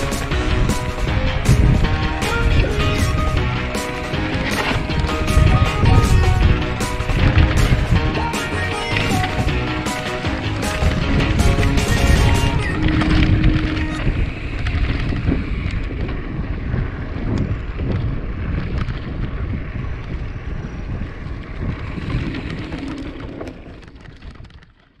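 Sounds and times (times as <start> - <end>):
bike tyres rumbling and rattling: 0.0 - 25.0
wind buffeting microphone: 0.0 - 25.0.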